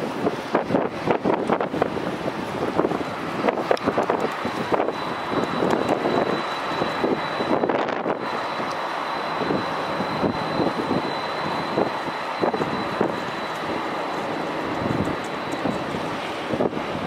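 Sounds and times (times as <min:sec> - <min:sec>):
jet engine with high whine: 0:00.0 - 0:17.0
wind gusts on microphone: 0:00.0 - 0:17.0.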